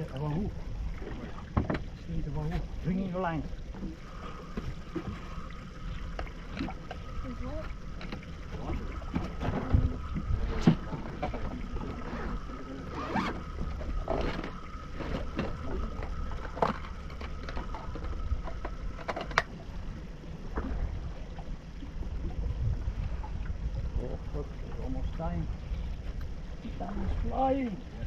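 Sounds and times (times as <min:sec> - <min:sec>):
boat engine low rumble: 0:00.0 - 0:28.0
faint steady whine: 0:00.0 - 0:28.0.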